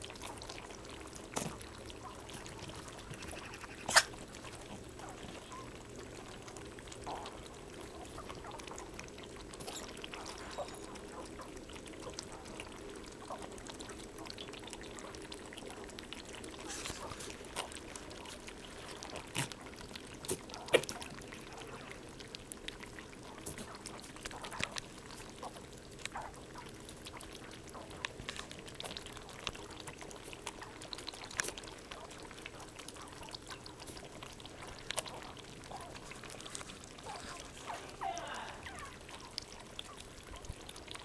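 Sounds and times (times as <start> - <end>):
rabbits lapping water: 0.0 - 41.0.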